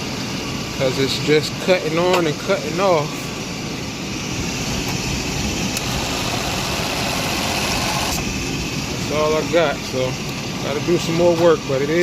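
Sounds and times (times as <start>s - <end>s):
air conditioning compressor cycling: 0.0s - 12.0s
van engine idling: 0.0s - 12.0s.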